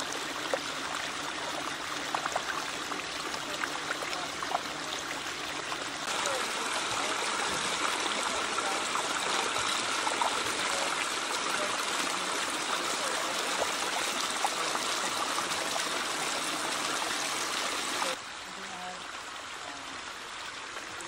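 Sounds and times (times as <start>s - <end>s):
water cascading over rocks: 0.0s - 21.0s.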